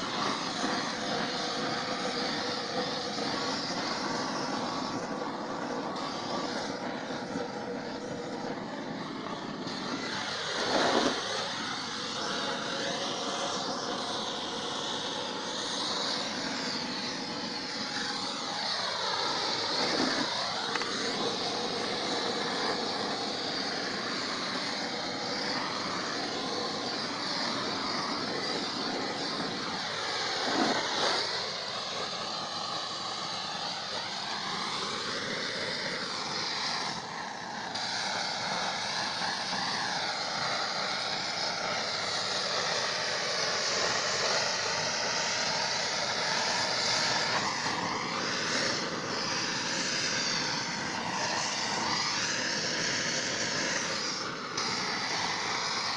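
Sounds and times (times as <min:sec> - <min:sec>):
blowtorch flame hissing: 0:00.0 - 0:55.9.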